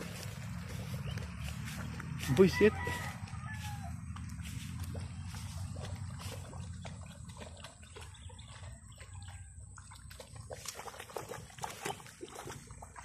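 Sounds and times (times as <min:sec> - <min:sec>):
dog splashing through puddle: 0:00.0 - 0:13.0.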